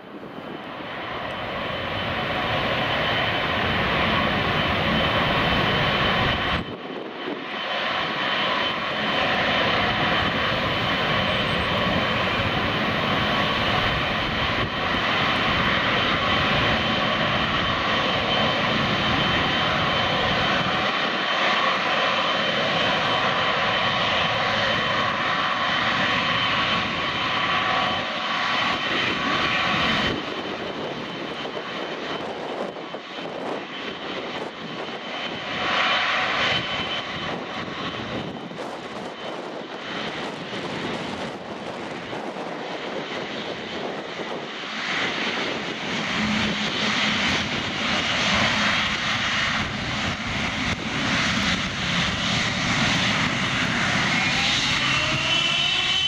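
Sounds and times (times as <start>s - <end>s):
wind buffeting microphone: 0.0s - 55.3s
jet engine whine: 0.0s - 56.0s.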